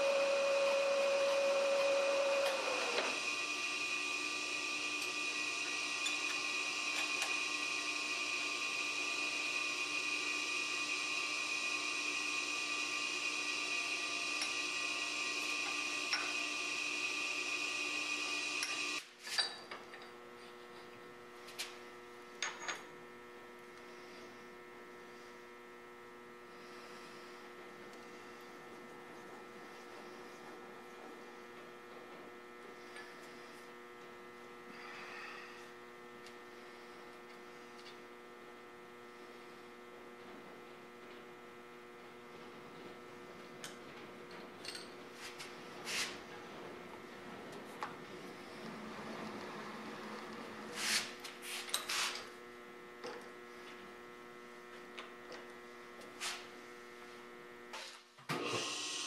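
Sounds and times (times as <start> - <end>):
milling machine spindle whine: 0.0 - 19.0, 26.1 - 38.1, 38.7 - 56.1.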